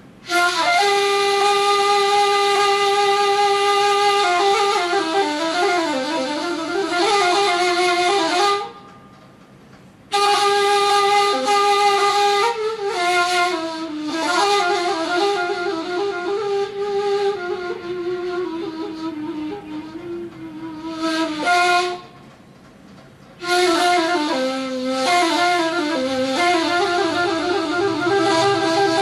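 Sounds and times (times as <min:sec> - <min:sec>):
cane flute melody: 0:00.0 - 0:09.2, 0:10.1 - 0:22.2, 0:23.4 - 0:29.0.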